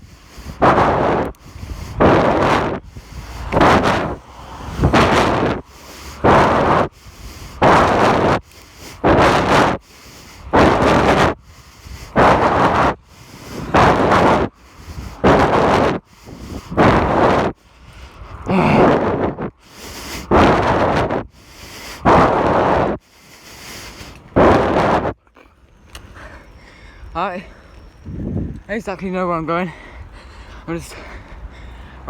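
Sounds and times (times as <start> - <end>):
heavy breathing into microphone: 0.0 - 28.4, 29.6 - 32.0.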